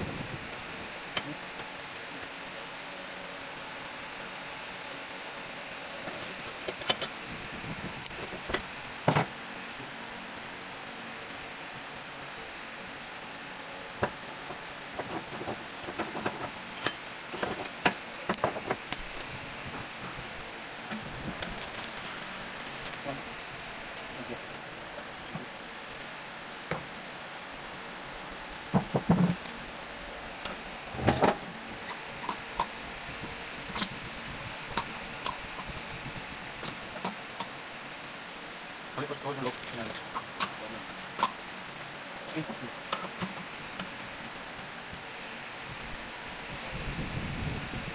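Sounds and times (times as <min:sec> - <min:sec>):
steady background hiss: 0:00.0 - 0:47.9.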